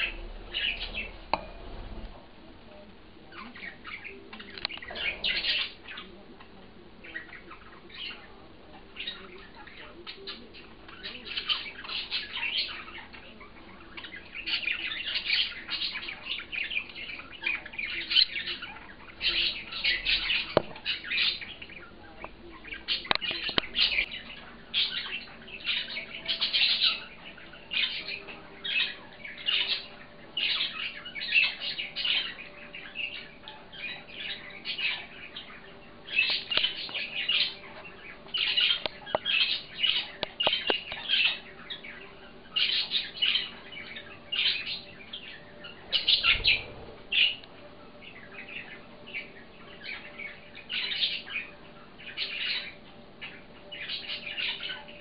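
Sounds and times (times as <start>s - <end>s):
budgerigars chirping: 0.0s - 55.0s.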